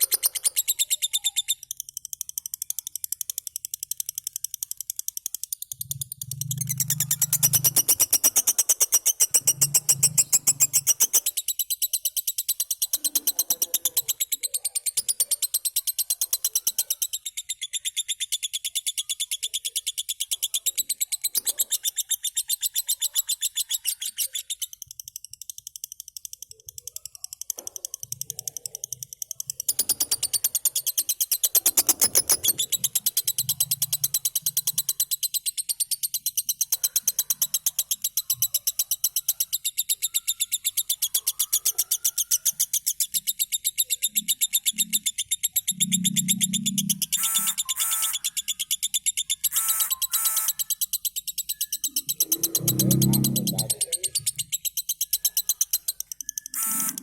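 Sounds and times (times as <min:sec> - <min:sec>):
lovebird chirping: 0:00.0 - 0:57.0.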